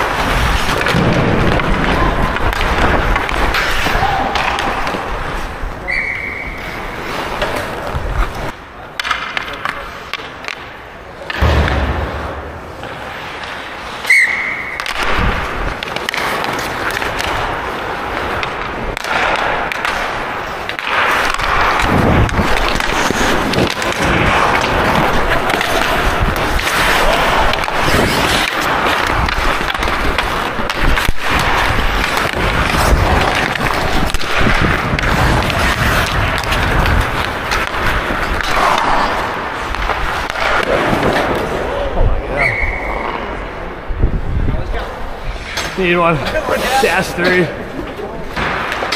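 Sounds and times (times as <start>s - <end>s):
ice skates scraping ice: 0.0s - 11.3s, 12.6s - 48.9s
hockey stick hitting puck: 0.0s - 42.0s, 45.4s - 48.9s.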